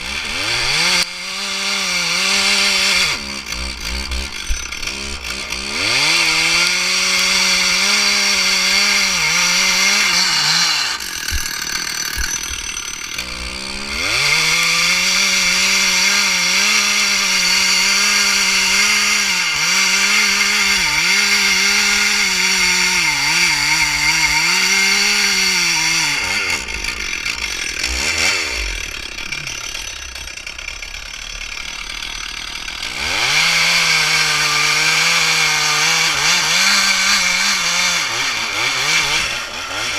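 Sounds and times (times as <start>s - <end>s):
chainsaw revving in a cut: 0.0s - 39.9s.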